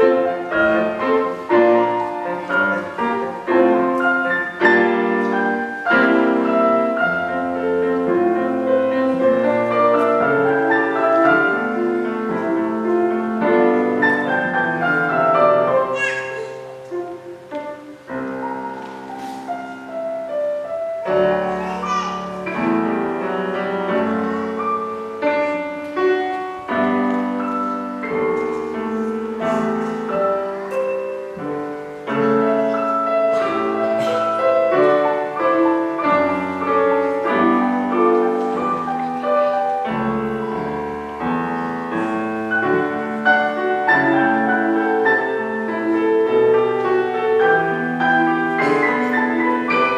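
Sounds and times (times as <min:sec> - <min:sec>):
piano melody over chords: 0:00.0 - 0:49.9.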